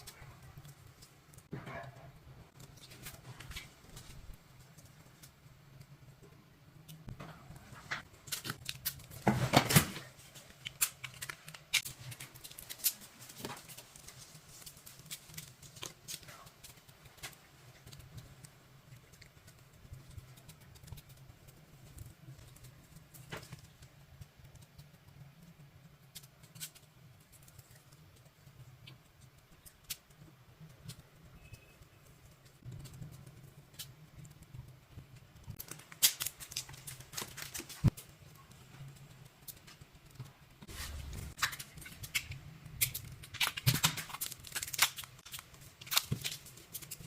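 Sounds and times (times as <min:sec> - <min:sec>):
crackling rustle: 0:07.0 - 0:47.0.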